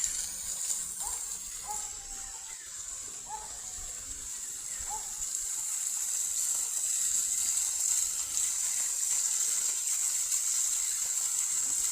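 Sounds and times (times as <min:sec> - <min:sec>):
steady high-pitched hiss: 0:00.0 - 0:11.9.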